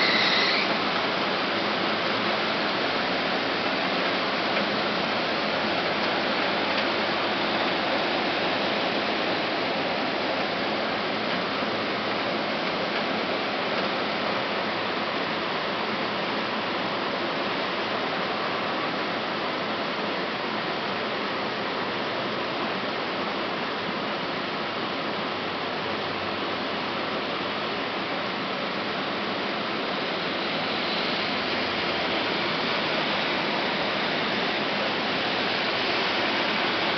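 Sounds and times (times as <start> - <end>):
heavy rain pouring: 0.0 - 36.9.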